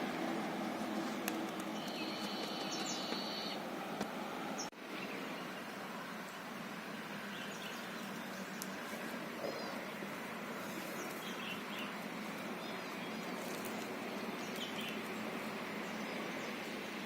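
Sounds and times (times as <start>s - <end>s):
small birds chirping faintly: 0.4s - 17.0s.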